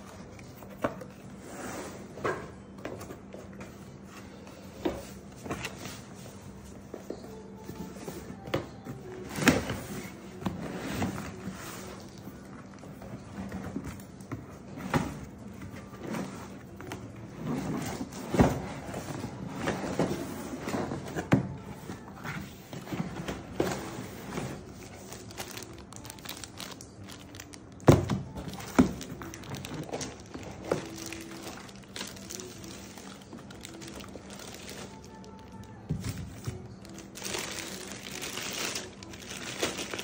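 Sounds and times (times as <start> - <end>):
plastic wrap and paper rustling: 3.8 - 40.0.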